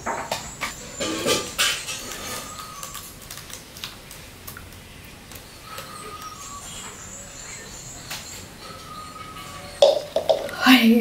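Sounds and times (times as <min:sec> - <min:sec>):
birds chirping and whistling: 0:00.0 - 0:03.2, 0:05.4 - 0:11.0.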